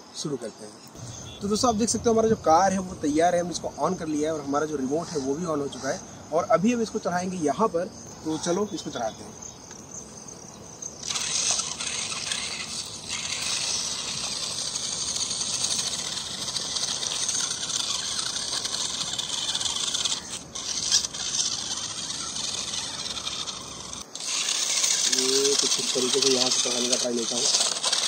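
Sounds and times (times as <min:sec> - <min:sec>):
rc car motor whine: 0:01.0 - 0:28.0.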